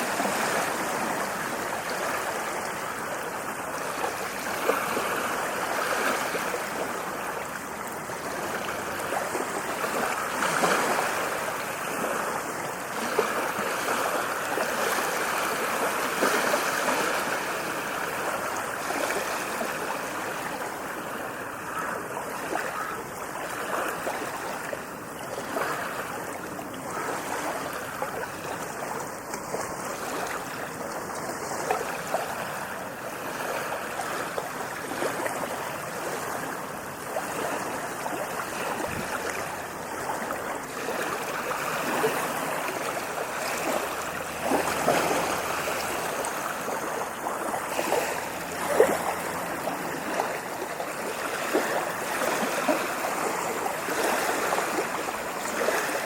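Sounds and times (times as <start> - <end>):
ocean waves washing onto beach: 0.0 - 56.0.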